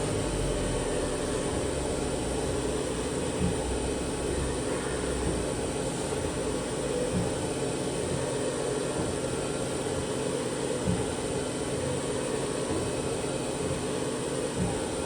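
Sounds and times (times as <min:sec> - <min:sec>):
machining center whirring: 0:00.0 - 0:15.0.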